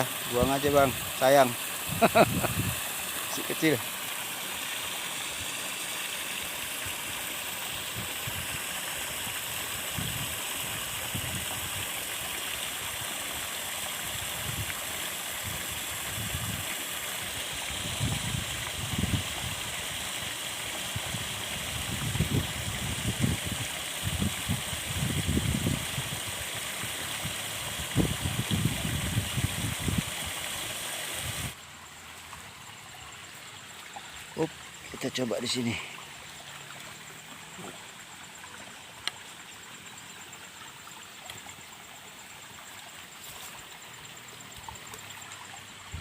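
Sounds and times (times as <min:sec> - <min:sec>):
flowing water hissing: 0:00.0 - 0:46.0.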